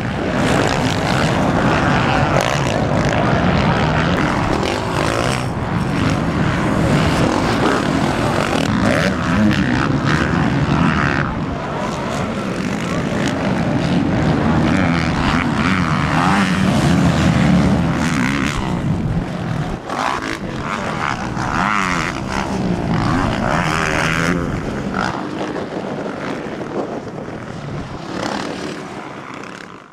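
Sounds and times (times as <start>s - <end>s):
dirt bike engines revving: 0.0s - 29.9s.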